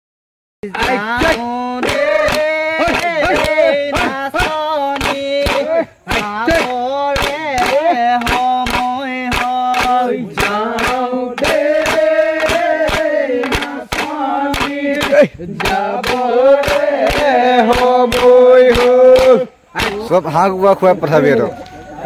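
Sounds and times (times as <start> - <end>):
men singing in long held notes: 0.6 - 19.6
steady beat of sharp strokes: 0.6 - 20.4.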